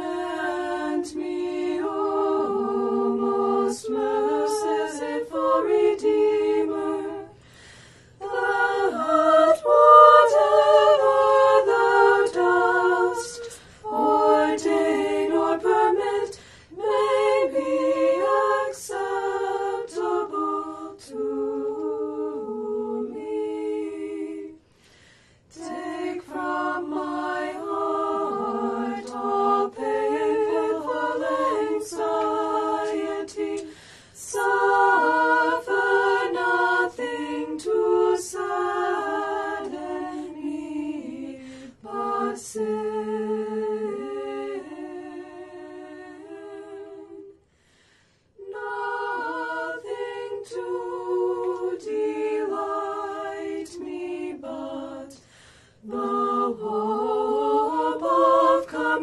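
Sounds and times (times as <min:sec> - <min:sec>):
women singing hymn a cappella: 0:00.0 - 0:59.0.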